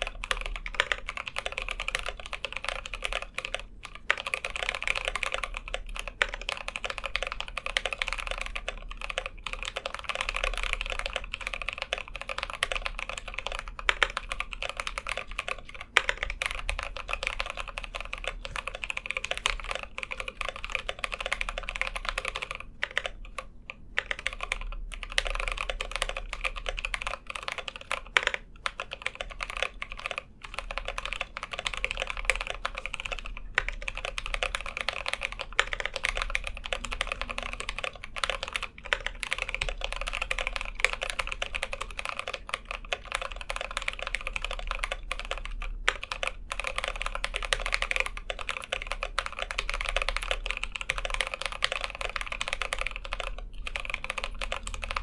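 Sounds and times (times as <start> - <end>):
fast mechanical keyboard typing: 0.0 - 55.0.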